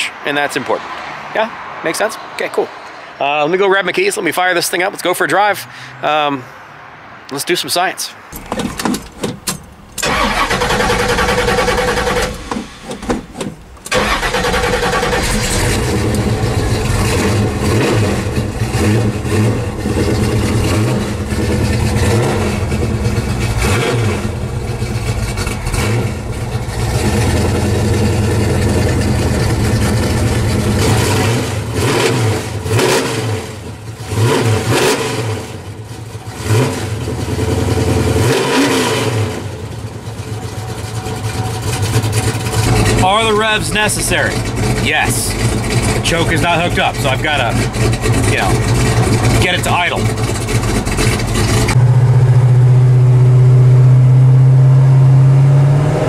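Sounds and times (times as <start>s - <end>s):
car engine starting and revving: 8.3s - 56.0s.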